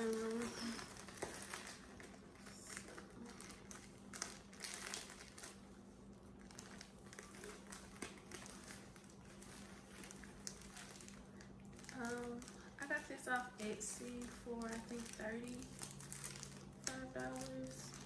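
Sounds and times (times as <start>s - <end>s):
faint steady hum: 0.0s - 18.0s
packaging rustling and crinkling: 0.0s - 18.0s.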